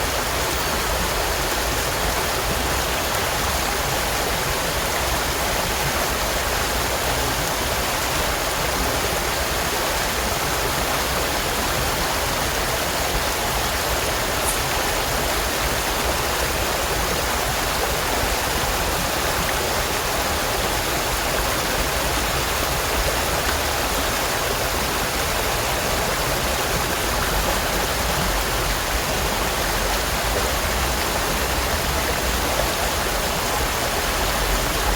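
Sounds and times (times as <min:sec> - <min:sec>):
stream water babbling: 0:00.0 - 0:34.9.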